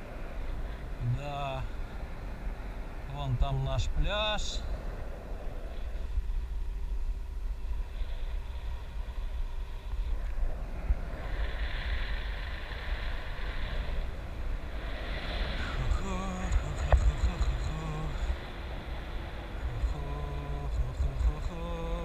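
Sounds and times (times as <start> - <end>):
faint steady hum: 0.0 - 22.0
wind buffeting microphone: 0.0 - 22.0.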